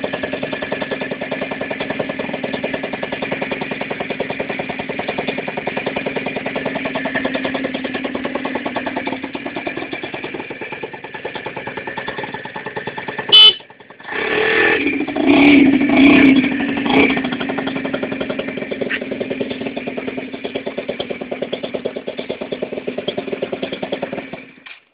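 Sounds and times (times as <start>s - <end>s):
scooter engine running: 0.0s - 24.9s.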